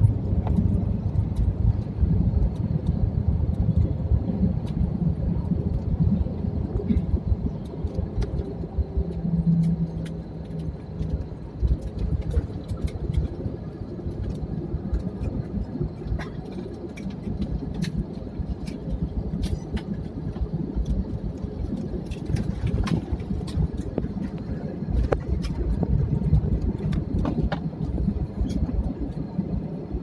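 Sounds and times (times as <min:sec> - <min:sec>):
airliner engine and rolling rumble: 0:00.0 - 0:30.0.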